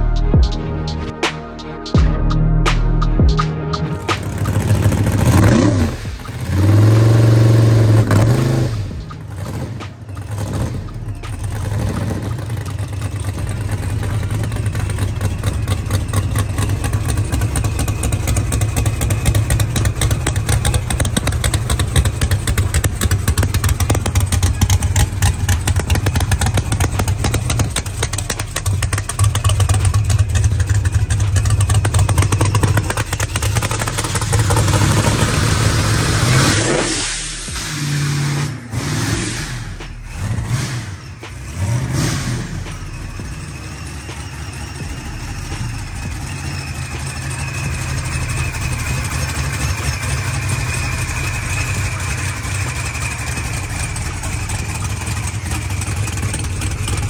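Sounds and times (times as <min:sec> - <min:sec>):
car engine idling choppily: 0:04.0 - 0:37.7, 0:41.0 - 0:57.0.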